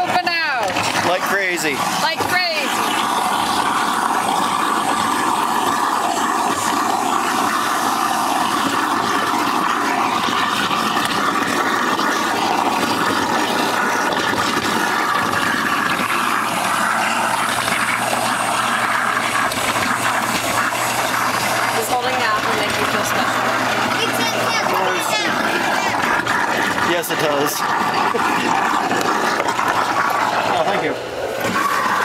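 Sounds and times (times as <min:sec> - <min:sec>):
garbage disposal grinding apples: 0:00.0 - 0:32.0.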